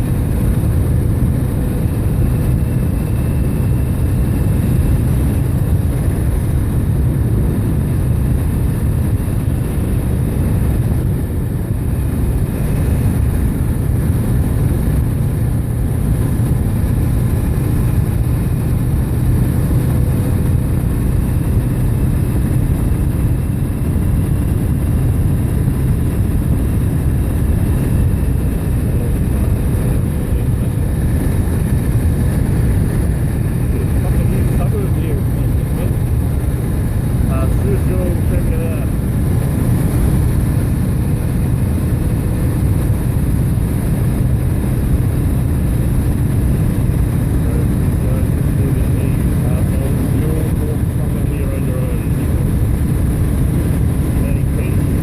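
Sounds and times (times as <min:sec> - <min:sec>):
motorbike engine and road noise: 0:00.0 - 0:55.0
wind on microphone: 0:00.0 - 0:55.0.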